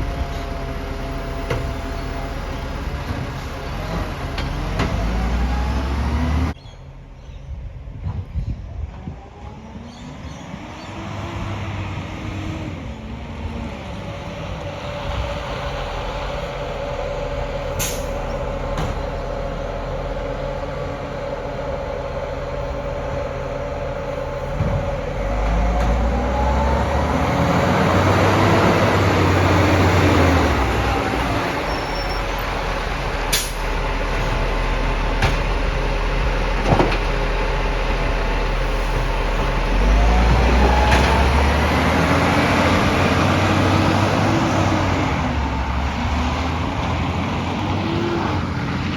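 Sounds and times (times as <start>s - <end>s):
garbage truck diesel engine running: 0.0s - 5.8s, 11.4s - 48.9s.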